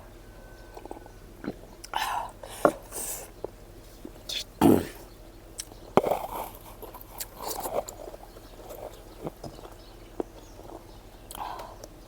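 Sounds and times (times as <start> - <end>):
chewing and wet mouth noises: 0.3 - 12.0.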